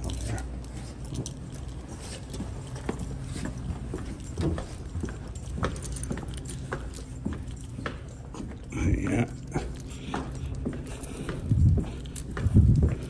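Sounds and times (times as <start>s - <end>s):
steady low hum: 0.0s - 13.0s
footsteps on hard floor: 0.8s - 13.0s.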